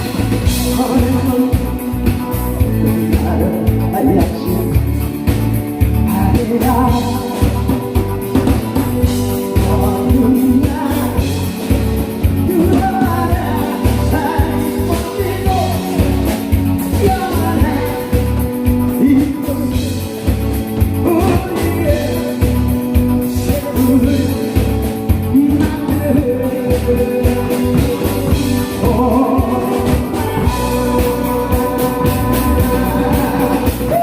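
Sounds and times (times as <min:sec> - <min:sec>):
backing music with pulsing beat: 0:00.0 - 0:34.0
person singing live: 0:00.0 - 0:34.0.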